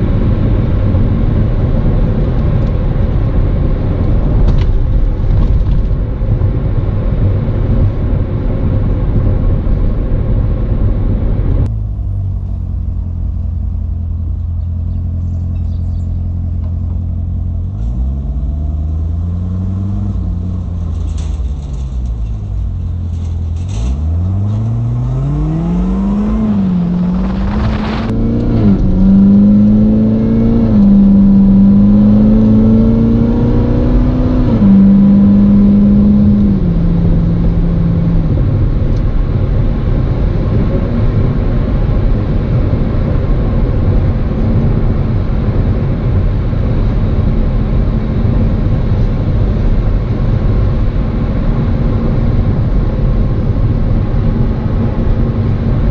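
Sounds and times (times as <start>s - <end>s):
road noise: 0.0s - 55.9s
sports car engine accelerating: 0.0s - 55.9s.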